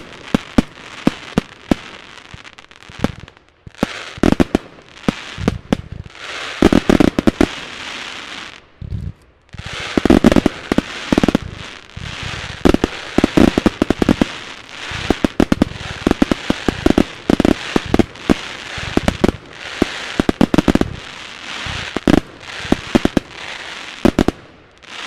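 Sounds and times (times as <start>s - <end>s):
fireworks bursting bangs: 0.0s - 25.0s
hiss of burning stars: 0.0s - 25.0s.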